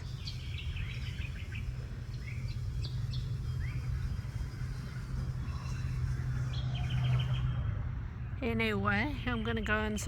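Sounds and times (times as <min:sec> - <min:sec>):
bird chirping: 0:00.0 - 0:10.0
steady low hum: 0:00.0 - 0:10.0.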